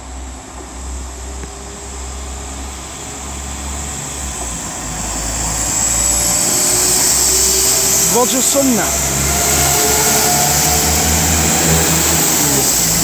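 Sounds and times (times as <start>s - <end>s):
diesel train engines rumbling: 0.0s - 13.0s.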